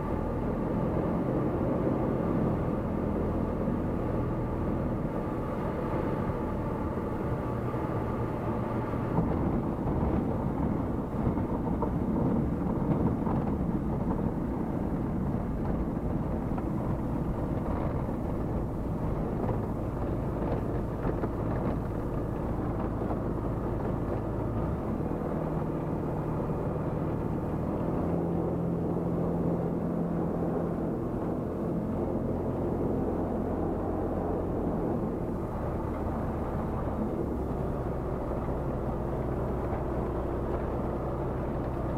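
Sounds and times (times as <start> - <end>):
light aircraft engine and propeller: 0.0 - 41.9.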